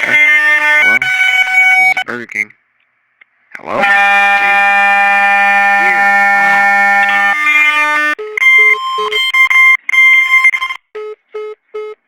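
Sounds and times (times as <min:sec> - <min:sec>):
intercom buzzing tone: 0:00.0 - 0:02.2, 0:03.6 - 0:12.0
intercom beeps: 0:00.0 - 0:02.4, 0:03.7 - 0:12.0.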